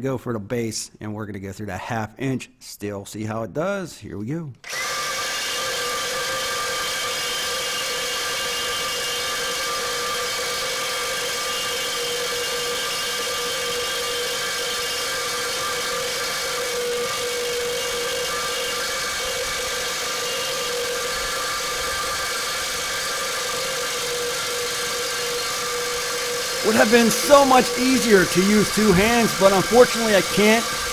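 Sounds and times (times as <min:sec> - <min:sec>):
reciprocating saw cutting steel pipe: 0:04.7 - 0:30.9.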